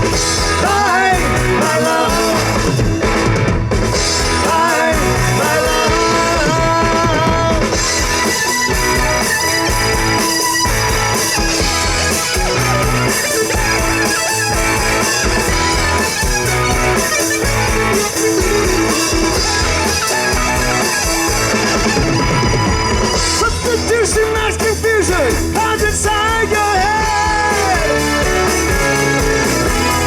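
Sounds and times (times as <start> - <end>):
lead guitar: 0.0 - 30.0
rock band playing: 0.0 - 30.0.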